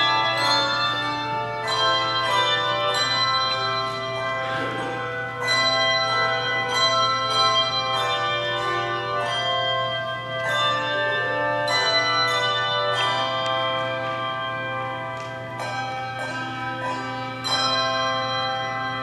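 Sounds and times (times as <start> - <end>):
handbells ringing chords: 0.0 - 19.0.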